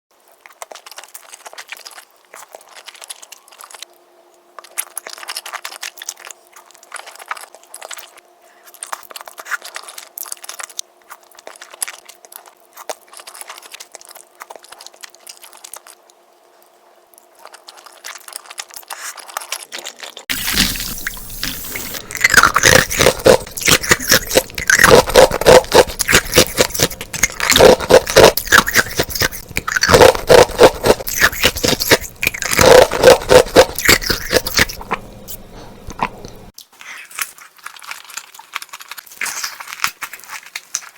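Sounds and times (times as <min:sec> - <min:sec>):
crunching and chewing crisp food: 0:00.1 - 0:40.9.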